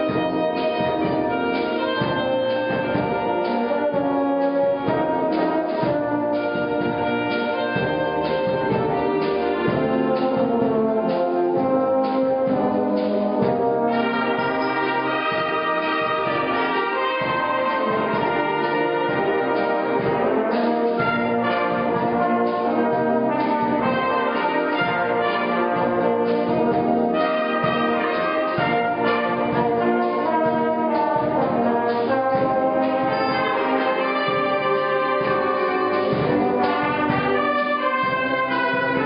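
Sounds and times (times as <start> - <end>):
wind band playing chords: 0.0 - 39.0.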